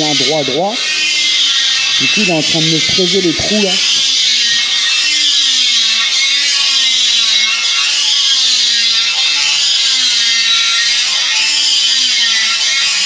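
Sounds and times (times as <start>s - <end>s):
background music: 0.0s - 13.0s
power tool grinding metal: 0.0s - 13.0s.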